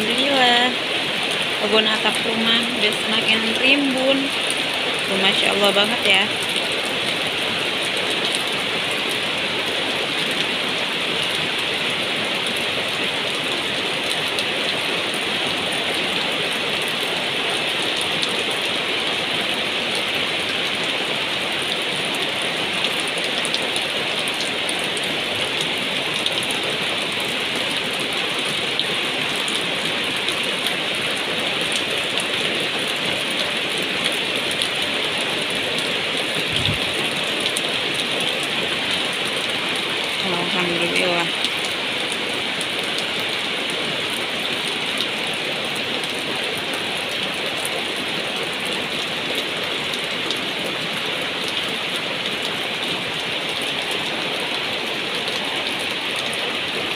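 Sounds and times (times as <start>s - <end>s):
heavy rain on rooftop and leaves: 0.0s - 56.9s.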